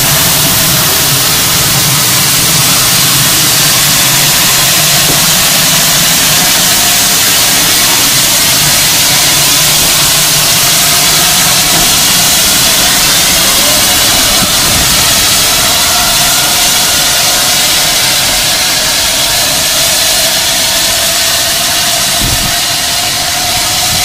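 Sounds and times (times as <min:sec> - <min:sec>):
steam locomotive hissing steam: 0:00.0 - 0:24.0.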